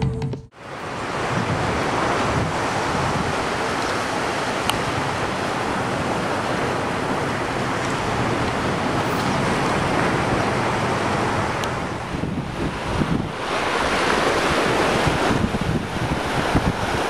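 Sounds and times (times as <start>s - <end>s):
small waves washing on shore: 0.6s - 17.0s
wind on microphone: 0.6s - 17.0s.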